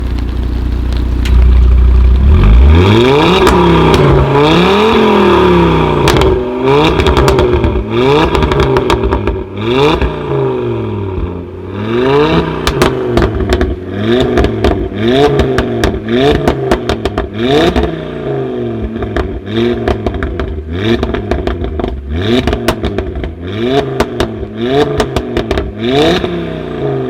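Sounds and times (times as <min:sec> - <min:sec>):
exhaust crackles and pops: 0:00.0 - 0:10.2, 0:12.1 - 0:18.0, 0:18.7 - 0:26.5
car engine revving: 0:00.5 - 0:27.0.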